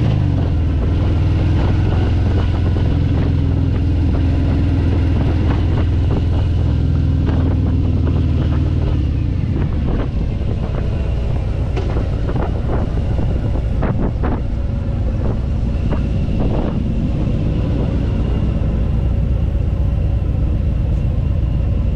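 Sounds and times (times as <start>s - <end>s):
vehicle drone at speed: 0.0s - 21.9s
wind buffeting microphone: 0.0s - 21.9s.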